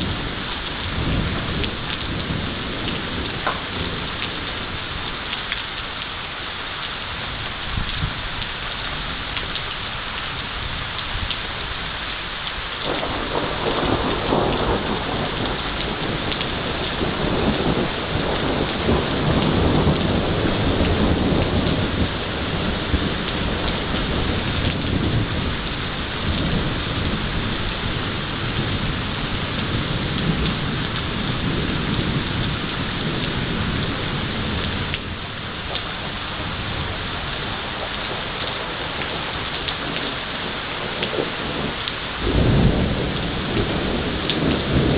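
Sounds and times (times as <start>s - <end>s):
thunder rolling: 0.0s - 5.2s, 12.8s - 44.9s
heavy rain falling: 0.0s - 44.9s.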